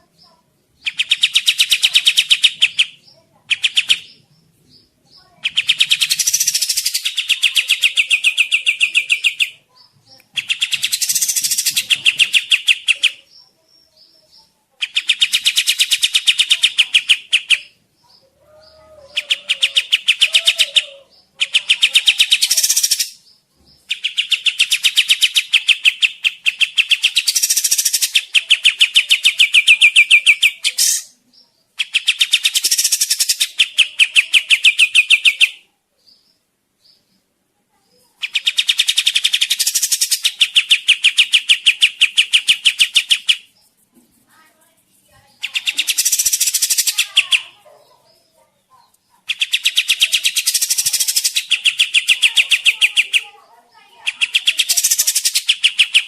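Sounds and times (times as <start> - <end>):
bird singing fast loud trills: 0.1 - 9.6, 10.4 - 36.2, 38.2 - 43.8, 45.3 - 48.4, 49.2 - 56.0.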